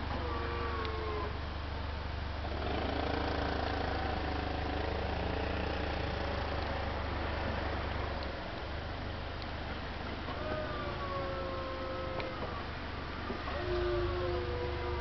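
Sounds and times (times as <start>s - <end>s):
hydraulic suspension whine: 0.0s - 15.0s
low steady hum: 0.0s - 15.0s.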